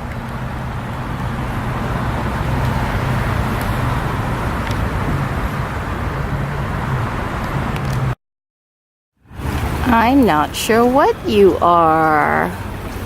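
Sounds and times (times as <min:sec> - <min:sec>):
road traffic rumble: 0:00.0 - 0:08.2, 0:09.2 - 0:13.0.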